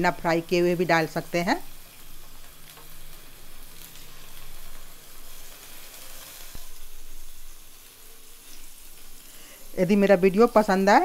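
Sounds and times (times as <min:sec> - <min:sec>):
cheese sizzling in a pan: 0:00.0 - 0:11.0.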